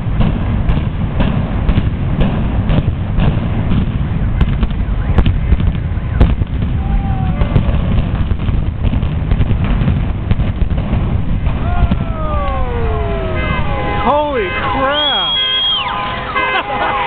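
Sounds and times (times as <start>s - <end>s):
heavy low rumble: 0.0s - 16.8s
explosive charges cracking: 0.0s - 17.0s.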